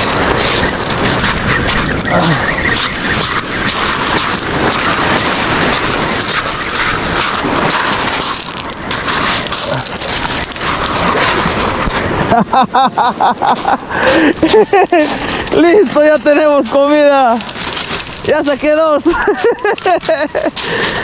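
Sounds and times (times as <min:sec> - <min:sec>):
sea surf washing over rocks: 0:00.0 - 0:21.0.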